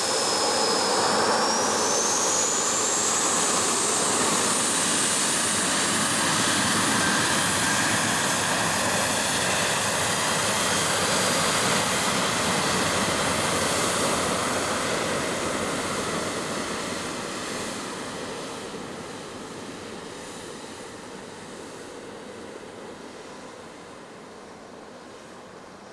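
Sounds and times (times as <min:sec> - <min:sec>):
jet engines at takeoff: 0:00.0 - 0:25.9.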